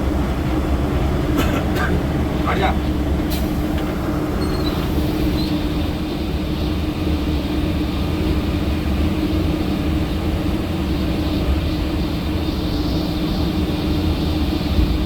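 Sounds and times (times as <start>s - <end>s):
bus engine droning: 0.0s - 15.0s
road noise: 0.0s - 15.0s.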